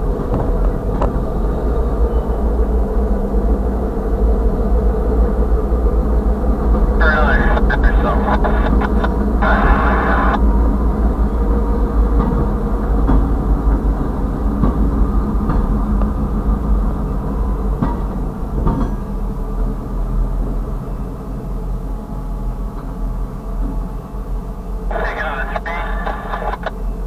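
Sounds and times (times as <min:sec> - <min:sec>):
diesel locomotive engines droning: 0:00.0 - 0:27.0.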